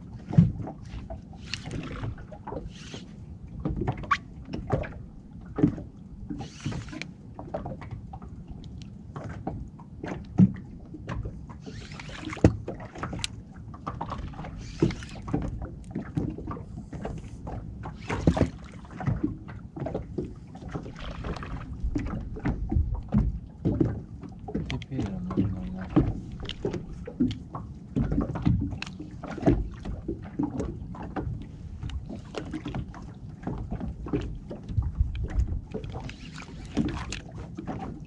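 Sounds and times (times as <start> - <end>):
water splashing against boat hull: 0.0 - 38.0.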